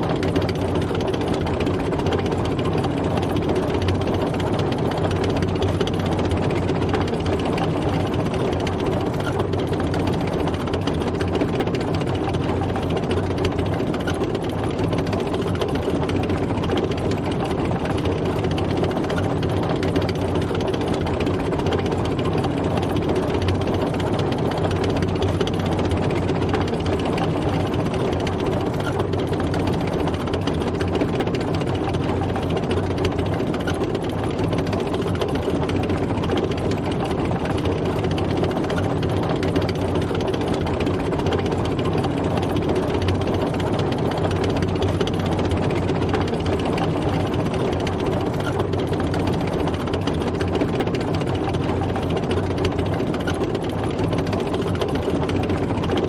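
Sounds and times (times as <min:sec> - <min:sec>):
tank engine running: 0:00.0 - 0:56.0.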